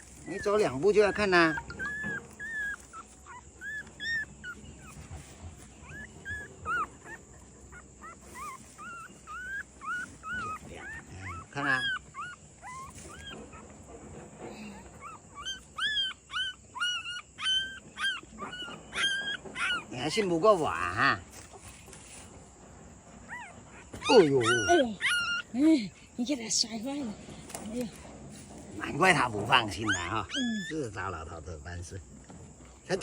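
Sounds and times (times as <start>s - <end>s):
dogs whimpering: 0.0s - 33.0s.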